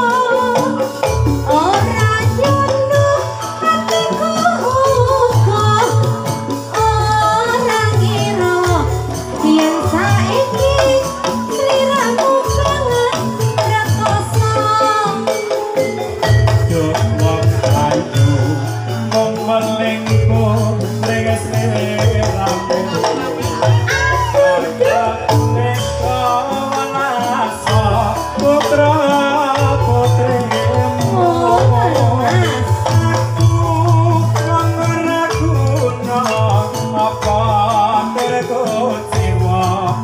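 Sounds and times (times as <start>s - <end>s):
driving drum beat: 0.0s - 40.0s
gamelan ensemble metallic tones: 0.0s - 40.0s
percussion strokes: 0.0s - 40.0s.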